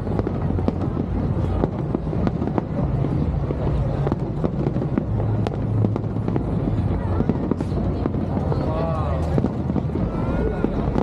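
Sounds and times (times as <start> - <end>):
dense low rumble: 0.0 - 11.0
fireworks cracking and popping: 0.0 - 11.0.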